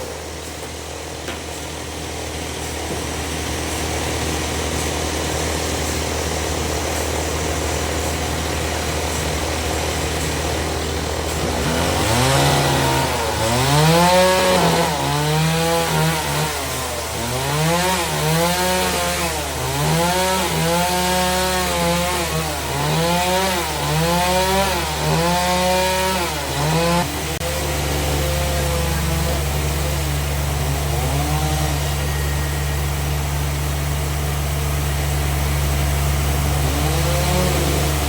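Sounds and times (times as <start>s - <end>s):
engine revving: 0.0s - 38.0s
machinery humming: 0.0s - 38.0s.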